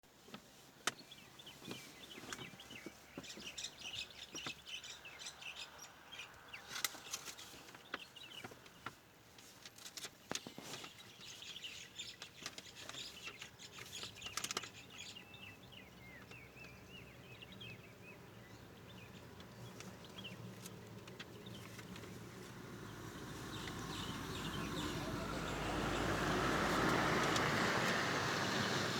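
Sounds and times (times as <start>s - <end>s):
small birds chirping: 0.2s - 28.9s.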